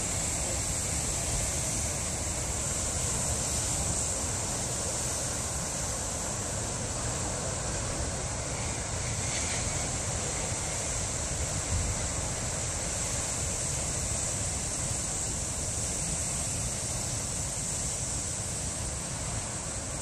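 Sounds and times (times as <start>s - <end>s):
ocean surf breaking over rocks: 0.0s - 20.0s.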